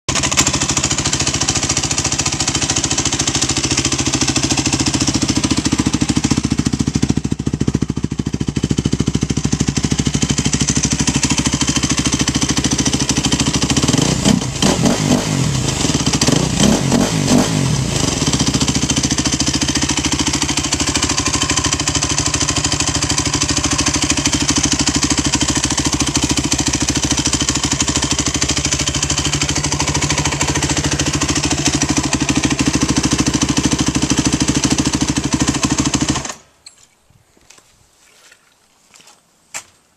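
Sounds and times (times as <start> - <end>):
motorcycle engine idling: 0.1 - 36.4.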